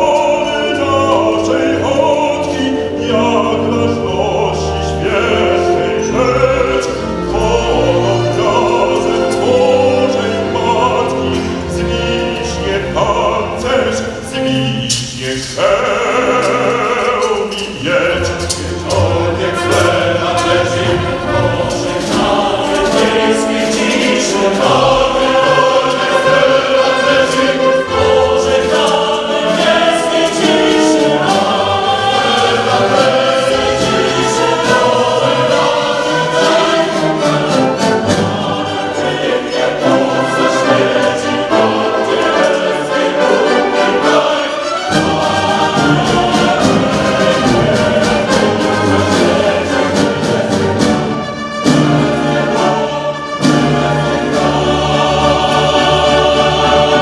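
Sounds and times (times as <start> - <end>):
orchestra and chorus performing opera: 0.0 - 57.0.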